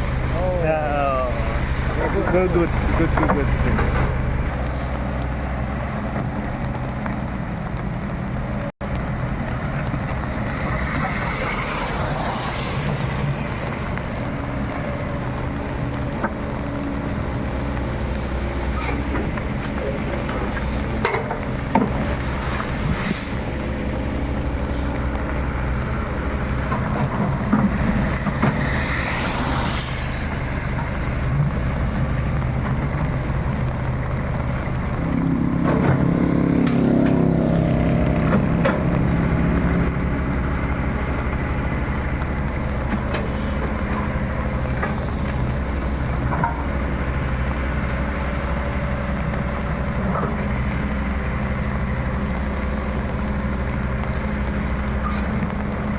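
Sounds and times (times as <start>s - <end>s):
diesel excavator engine running: 0.0s - 55.9s.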